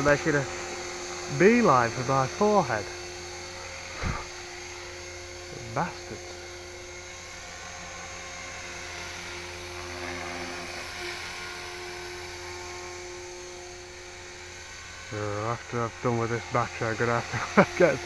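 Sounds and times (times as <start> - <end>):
electric motor whine: 0.0 - 18.0
rotor blades whirring: 0.0 - 18.0.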